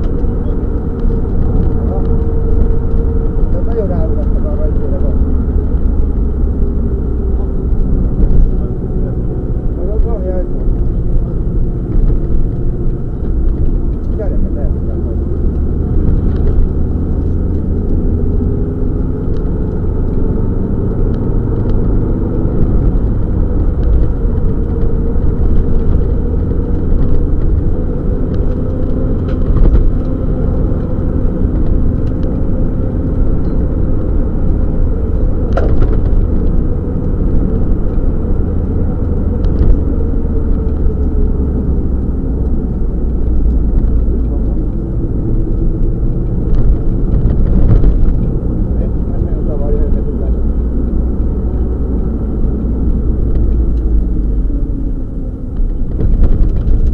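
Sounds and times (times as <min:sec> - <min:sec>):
rally car engine revving: 0:00.0 - 0:56.9
road and tyre noise: 0:00.0 - 0:56.9.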